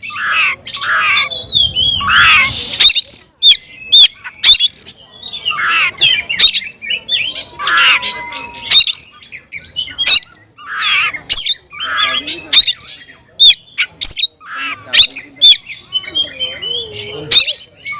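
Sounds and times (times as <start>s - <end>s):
bird singing whistled notes: 0.0s - 17.9s.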